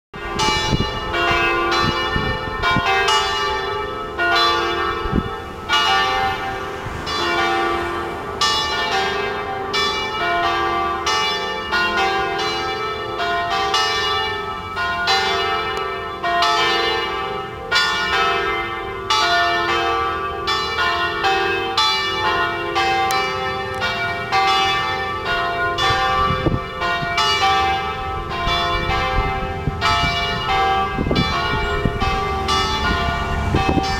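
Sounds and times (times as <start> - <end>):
church bells playing a tune: 0.2 - 33.9.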